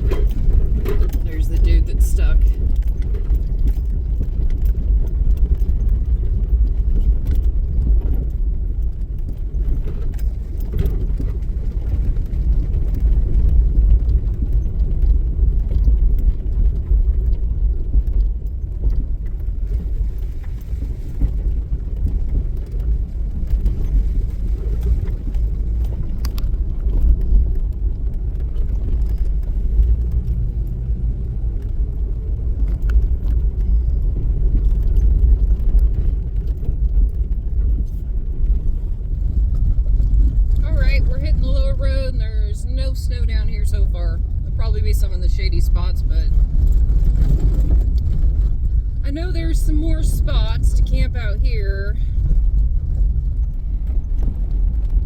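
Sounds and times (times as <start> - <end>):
engine and tyres rumbling: 0.0 - 55.0.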